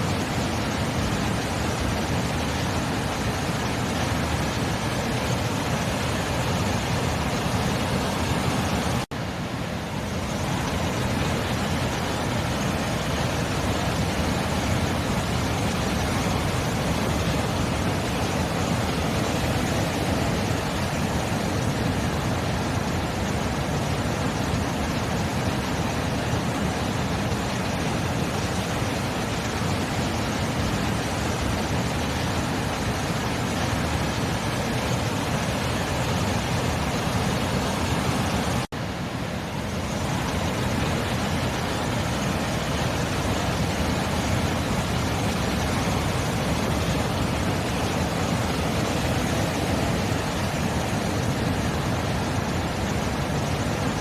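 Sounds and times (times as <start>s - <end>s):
waves rushing: 0.0s - 54.0s.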